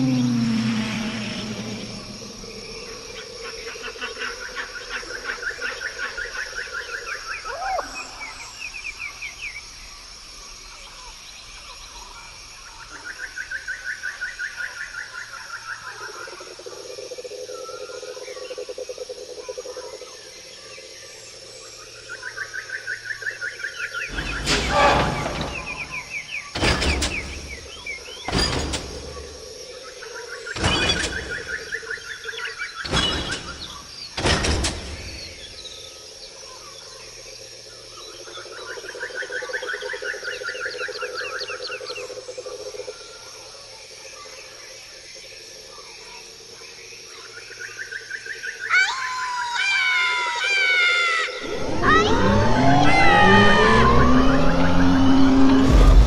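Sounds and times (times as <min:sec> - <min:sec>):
high insect-like hiss: 0:00.0 - 0:52.0.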